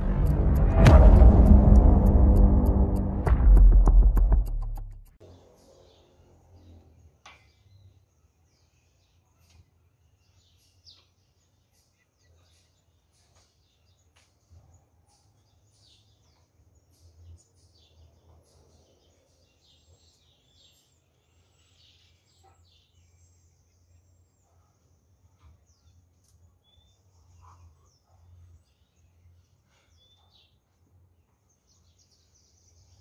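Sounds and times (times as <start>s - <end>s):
faint birds chirping: 5.2s - 33.0s.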